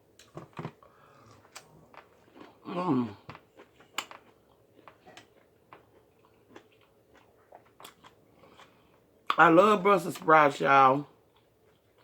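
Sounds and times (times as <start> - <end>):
faint chewing: 0.2 - 9.4, 11.2 - 12.0.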